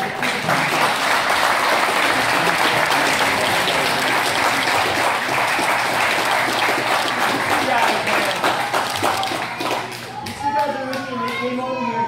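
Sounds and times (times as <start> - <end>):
crowd applauding: 0.0 - 11.4.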